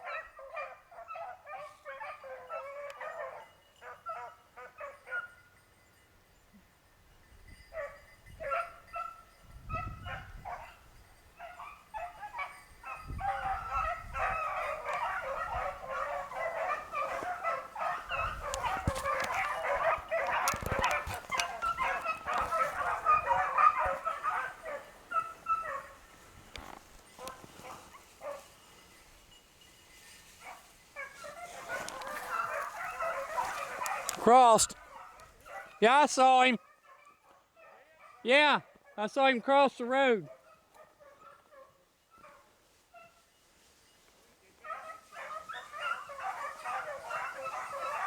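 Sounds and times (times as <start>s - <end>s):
pack of hounds baying: 0.0s - 5.6s, 7.6s - 28.6s, 30.2s - 43.6s, 44.5s - 48.0s.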